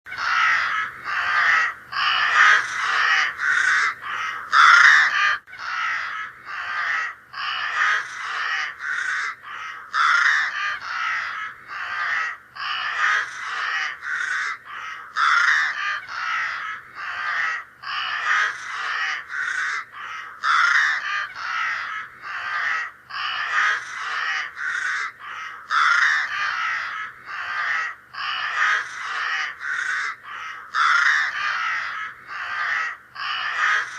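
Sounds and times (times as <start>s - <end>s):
crow cawing: 0.1s - 33.9s.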